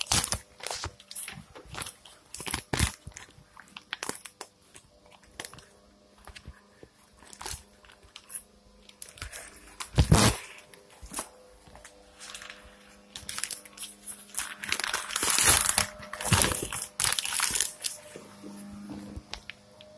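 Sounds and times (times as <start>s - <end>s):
rustling and crinkling handling: 0.0s - 19.9s.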